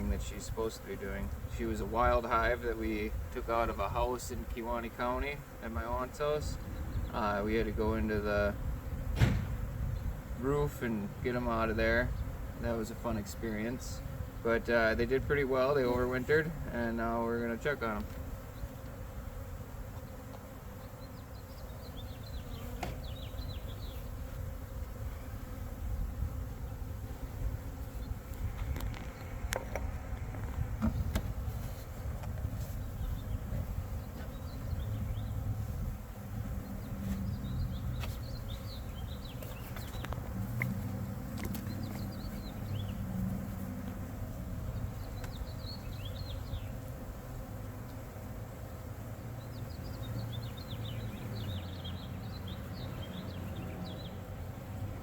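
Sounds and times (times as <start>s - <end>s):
honey bees buzzing: 0.0s - 55.0s.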